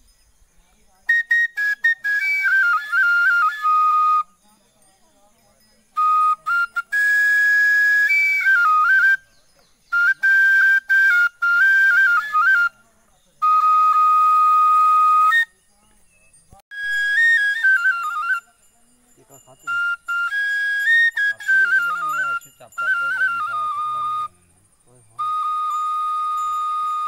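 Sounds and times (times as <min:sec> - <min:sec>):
bamboo flute tune: 0:01.0 - 0:04.9, 0:05.6 - 0:27.0.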